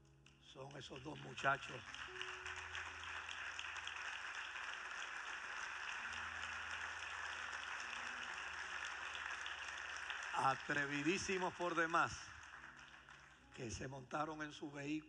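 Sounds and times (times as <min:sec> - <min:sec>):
crowd applauding: 0:00.0 - 0:14.7.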